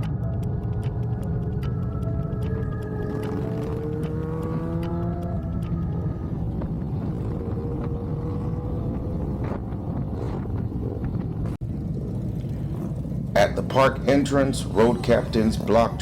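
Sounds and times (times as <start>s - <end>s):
wind and road noise: 0.0s - 16.0s
motorcycle engines rumbling: 1.0s - 16.0s.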